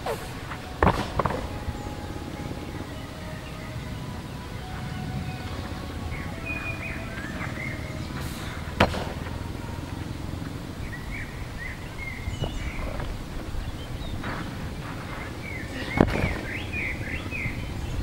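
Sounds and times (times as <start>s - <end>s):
low wind rumble: 0.0s - 18.0s
small birds chirping: 0.0s - 18.0s.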